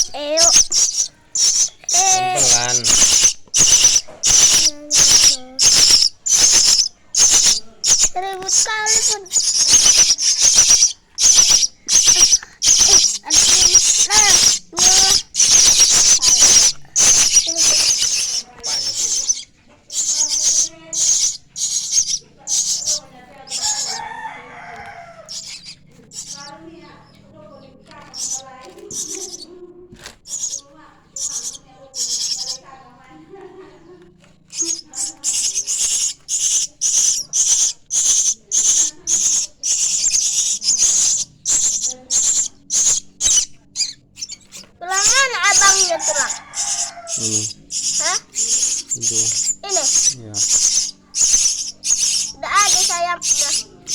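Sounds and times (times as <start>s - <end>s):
young starlings calling harshly: 0.0s - 33.9s, 34.5s - 53.9s
nestling birds begging rasps: 0.0s - 53.9s.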